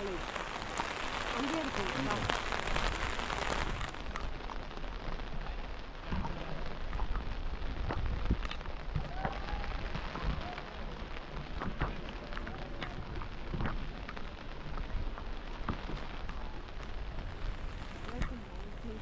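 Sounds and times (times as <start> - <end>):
rain falling: 0.0 - 19.0
raindrops ticking close by: 0.0 - 19.0.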